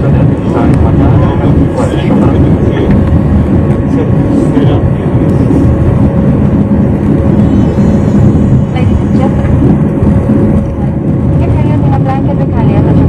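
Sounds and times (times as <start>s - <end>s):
jet airliner rumble in cabin: 0.0s - 13.0s.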